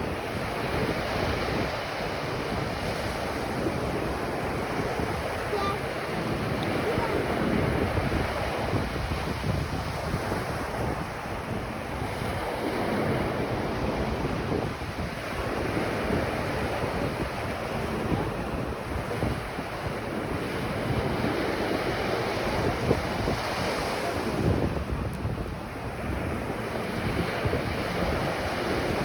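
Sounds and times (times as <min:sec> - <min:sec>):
ocean surf breaking on beach: 0:00.0 - 0:29.0
wind buffeting microphone: 0:00.0 - 0:29.0.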